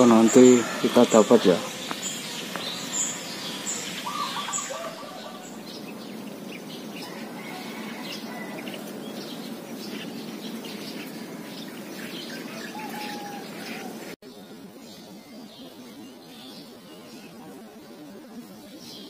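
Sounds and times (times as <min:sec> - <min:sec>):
birds chirping: 0:00.0 - 0:19.0
steady background hiss: 0:00.0 - 0:19.0.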